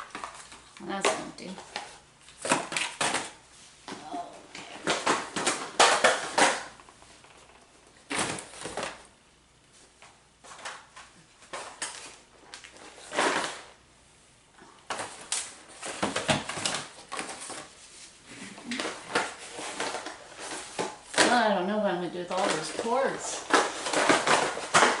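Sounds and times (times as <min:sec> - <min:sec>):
packaged items clattering and rustling: 0:00.0 - 0:09.1, 0:09.9 - 0:13.8, 0:14.8 - 0:21.5, 0:22.2 - 0:25.0.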